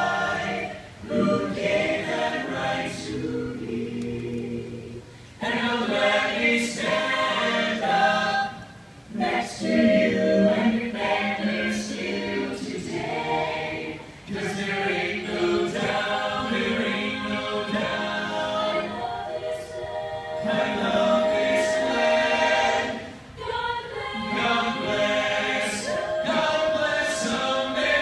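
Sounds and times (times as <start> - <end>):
choir singing a cappella: 0.0 - 28.0.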